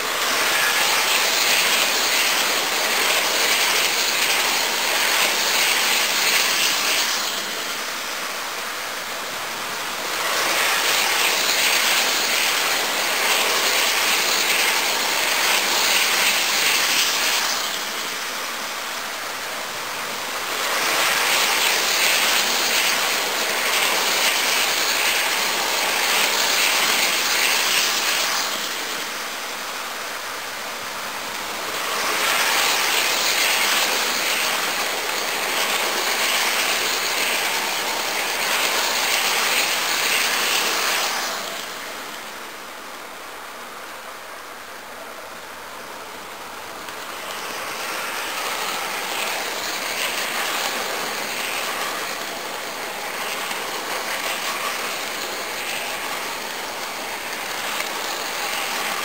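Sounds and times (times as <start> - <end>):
model train hissing rattle: 0.0 - 42.6, 45.3 - 59.0.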